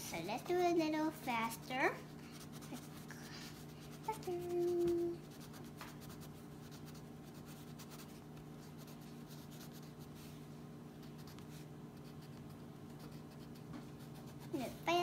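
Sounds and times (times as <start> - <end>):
crayon scribbling on paper: 1.2 - 10.2, 11.0 - 15.0.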